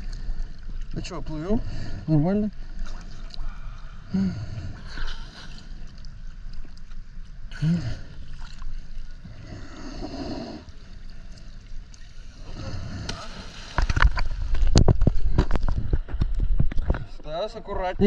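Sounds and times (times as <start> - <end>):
water sloshing and gurgling: 0.0 - 18.0.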